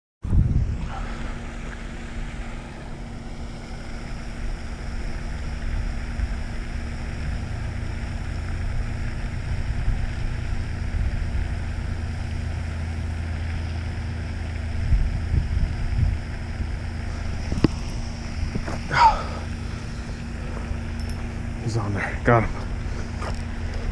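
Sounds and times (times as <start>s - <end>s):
low hum and hiss: 0.2s - 23.9s
wind rumbling on microphone: 0.2s - 23.9s.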